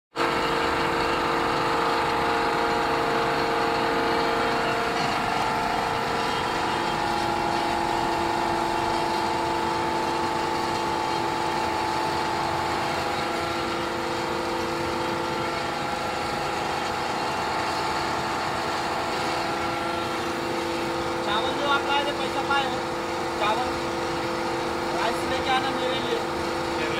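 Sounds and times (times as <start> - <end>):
extruder machine droning and whining: 0.2 - 26.9.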